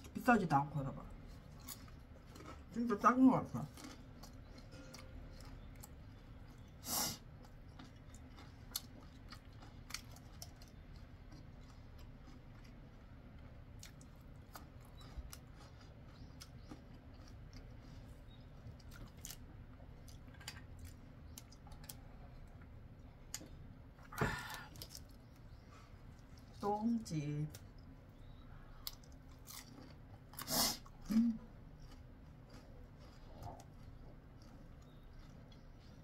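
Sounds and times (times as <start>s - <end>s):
chewing crispy fried chicken: 0.0s - 36.0s.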